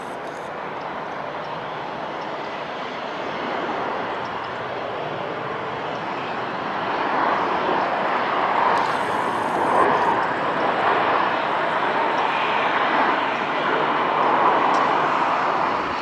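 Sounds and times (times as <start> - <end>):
jet airliner engines rushing: 0.0 - 16.0.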